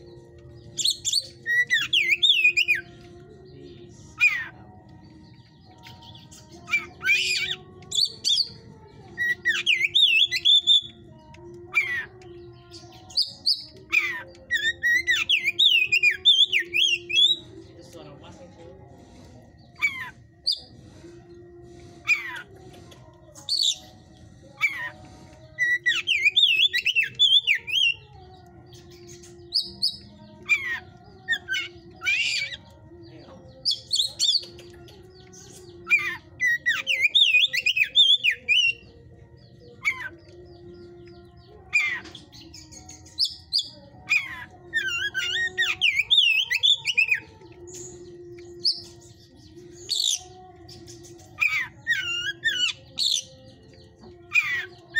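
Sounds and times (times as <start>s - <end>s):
songbird singing: 0.0s - 54.9s.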